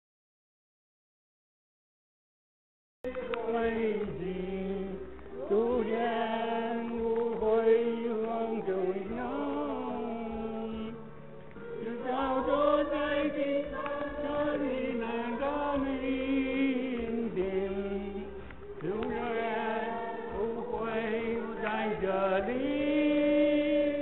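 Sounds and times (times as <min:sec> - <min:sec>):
voices chant-like singing: 0:03.1 - 0:24.0.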